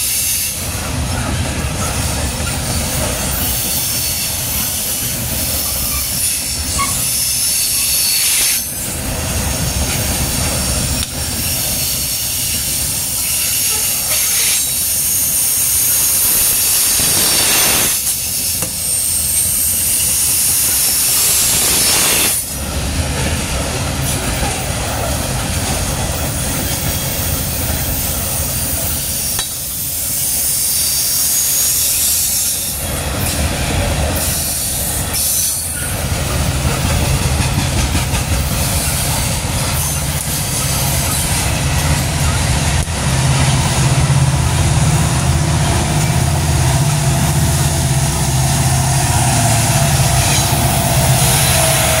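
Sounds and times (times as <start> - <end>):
diesel locomotive drone: 0.0 - 52.0
steel wheels on rail: 0.0 - 52.0.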